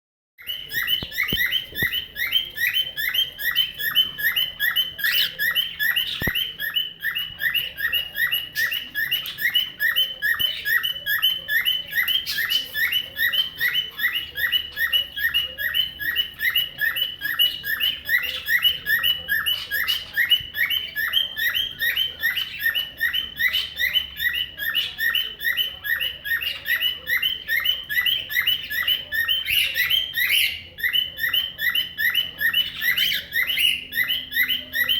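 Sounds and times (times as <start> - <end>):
cockatiel whistled chirps: 0.4 - 34.9.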